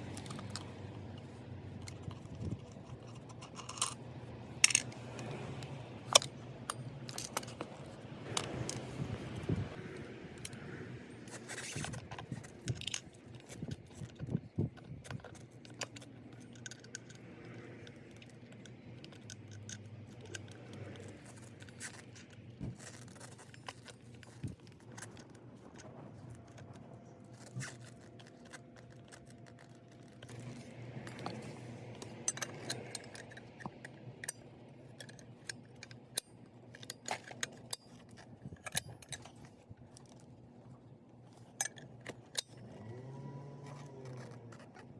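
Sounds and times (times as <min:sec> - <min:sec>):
metal tools clinking and scraping: 0:00.0 - 0:09.5, 0:10.4 - 0:44.9.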